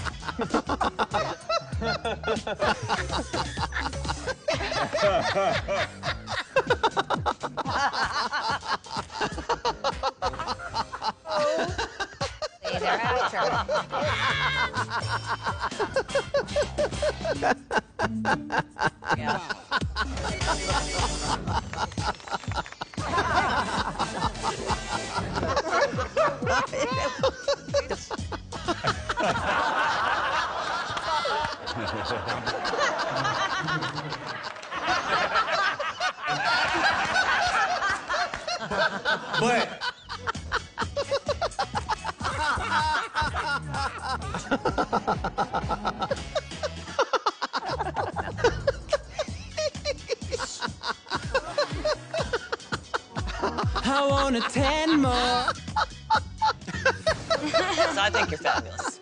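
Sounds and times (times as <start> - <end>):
light background music: 0.0 - 59.0
person cackling laughter: 0.0 - 59.0.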